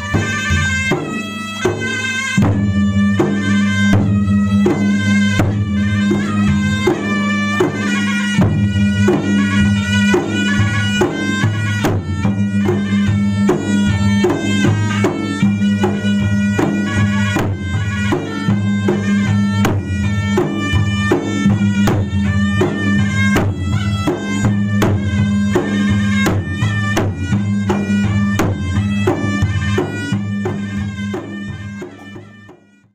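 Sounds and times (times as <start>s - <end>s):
barrel drums beaten rapidly: 0.0s - 32.8s
wind instrument melody: 0.0s - 32.9s.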